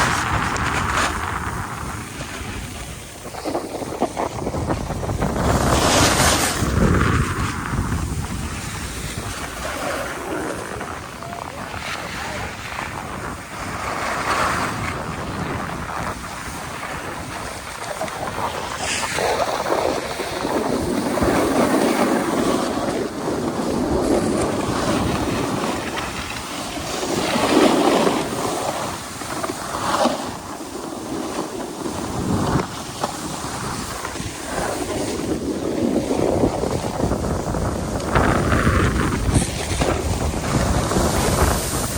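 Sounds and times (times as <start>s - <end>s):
snowboard scraping snow: 0.0s - 41.9s
wind rushing over microphone: 0.0s - 41.9s.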